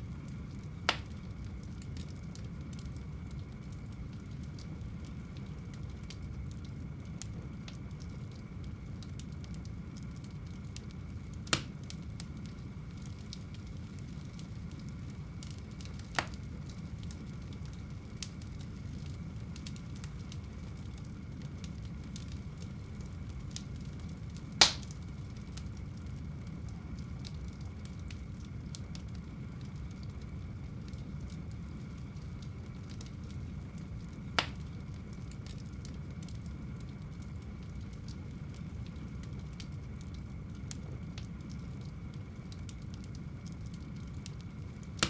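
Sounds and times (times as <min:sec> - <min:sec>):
faint fire crackles: 0:00.0 - 0:45.0
fire low rumble: 0:00.0 - 0:45.0
burning wood popping: 0:00.2 - 0:45.0.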